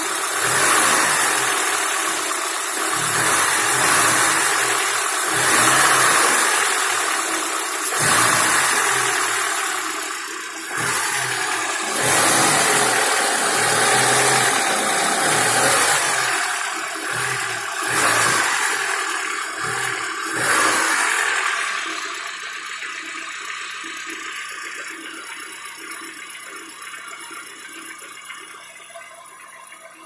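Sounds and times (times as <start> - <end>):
car engine revving with knock: 0.0 - 25.0.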